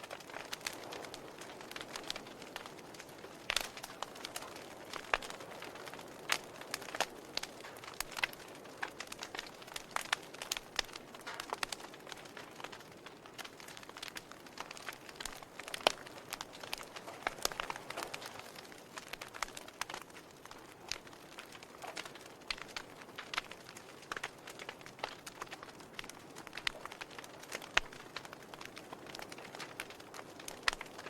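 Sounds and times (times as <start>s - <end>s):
soft steady hiss: 0.0s - 31.0s
wood fire crackling: 0.0s - 31.0s.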